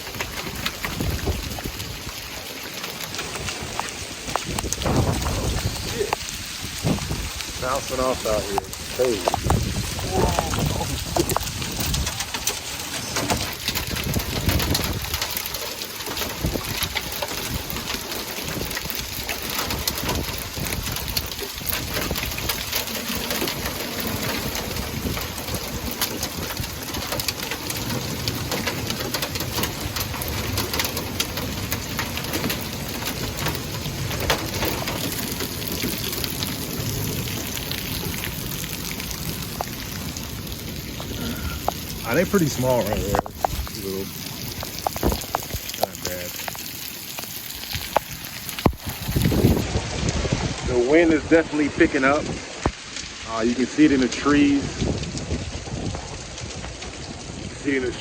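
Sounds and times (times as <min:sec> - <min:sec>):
hailstones clicking on hard surfaces: 0:00.0 - 0:50.3
rain hiss: 0:00.0 - 0:58.0.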